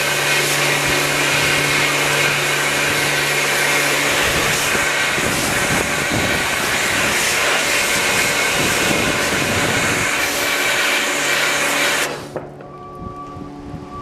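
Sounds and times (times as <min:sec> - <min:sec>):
cleaning tool hissing: 0:00.0 - 0:12.4.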